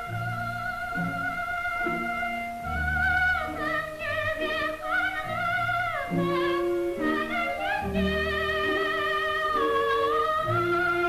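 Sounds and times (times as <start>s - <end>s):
operatic soprano singing: 0.0s - 11.0s
orchestral accompaniment: 0.0s - 11.0s.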